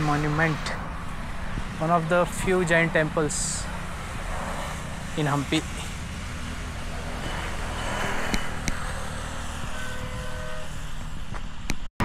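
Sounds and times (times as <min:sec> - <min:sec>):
vehicle engine and road rumble: 0:00.0 - 0:11.9.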